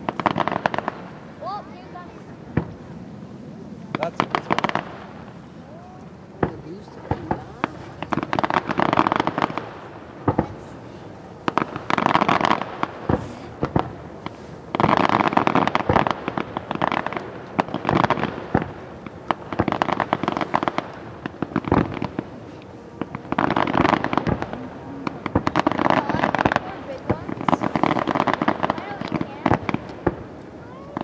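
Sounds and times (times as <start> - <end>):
firework bangs: 0.0 - 31.0
firework crackling bursts: 0.0 - 31.0.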